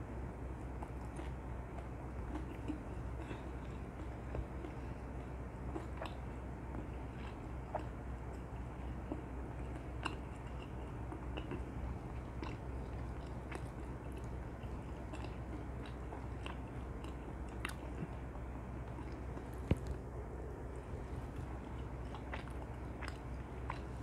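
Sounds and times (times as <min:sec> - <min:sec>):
chewing sticky fried chicken: 0:00.0 - 0:24.0
low hum: 0:00.0 - 0:24.0.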